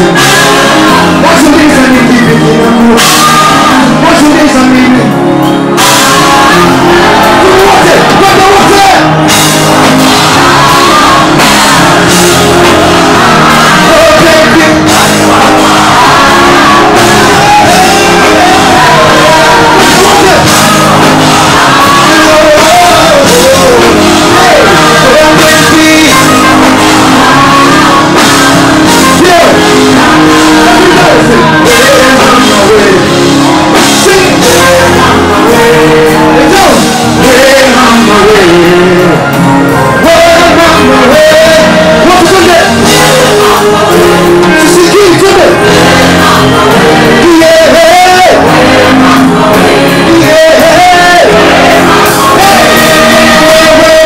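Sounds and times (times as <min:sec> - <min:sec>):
amplified backing track: 0:00.0 - 0:54.0
person singing and shouting: 0:00.0 - 0:54.0.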